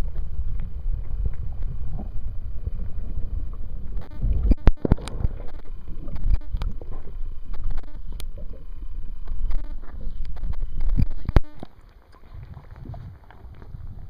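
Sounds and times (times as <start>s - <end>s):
muffled underwater water rumble: 0.0s - 14.0s.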